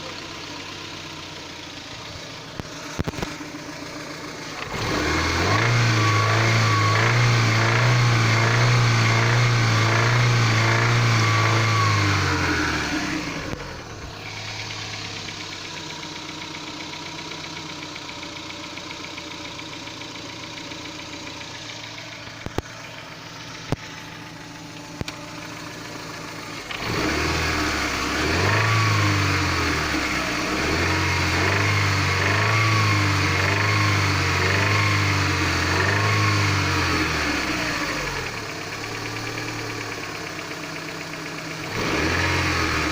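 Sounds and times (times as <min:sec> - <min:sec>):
petrol engine revving and idling: 0:00.0 - 0:42.9.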